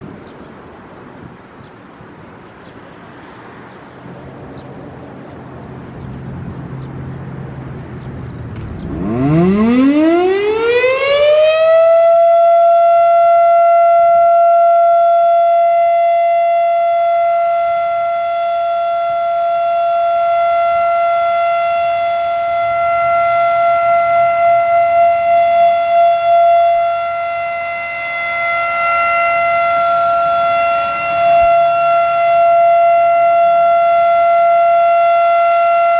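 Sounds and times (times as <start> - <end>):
warning siren wailing: 5.6 - 35.9.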